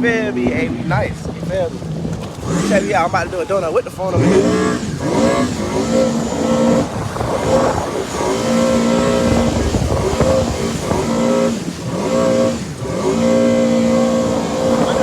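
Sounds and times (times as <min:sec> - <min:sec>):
jet ski engine revving: 0:00.0 - 0:15.0
rush of wind and spray: 0:00.0 - 0:15.0.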